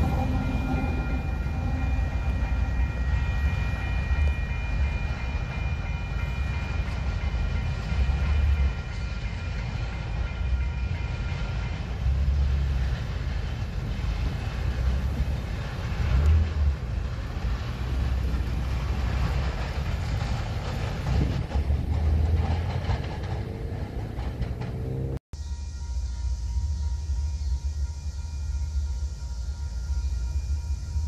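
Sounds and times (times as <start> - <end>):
locomotive rumble: 0.0 - 25.9
train wheels on rail: 0.0 - 31.0.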